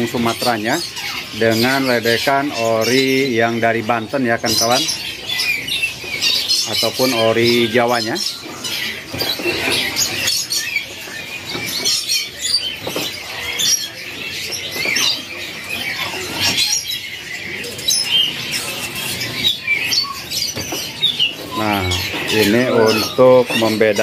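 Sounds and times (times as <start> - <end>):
songbirds chirping and twittering: 0.0 - 24.0.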